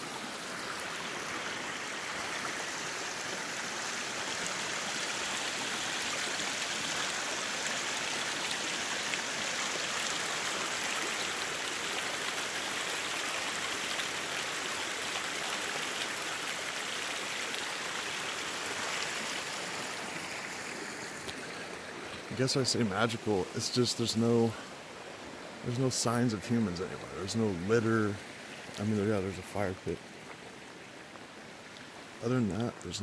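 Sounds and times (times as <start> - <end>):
creek running over stones: 0.0 - 33.0.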